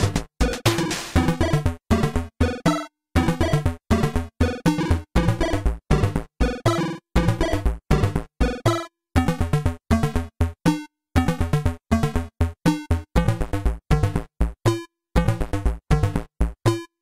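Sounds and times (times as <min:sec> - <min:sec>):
choppy synthesizer notes: 0:00.0 - 0:16.9.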